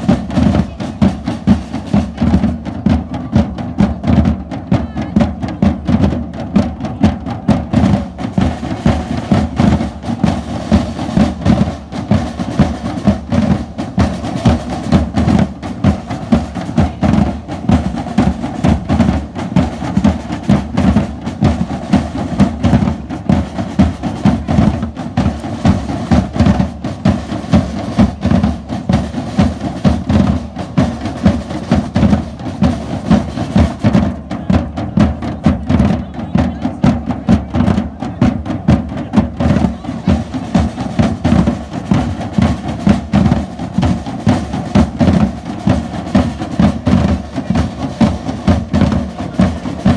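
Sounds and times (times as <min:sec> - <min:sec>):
drum band playing: 0:00.0 - 0:49.9.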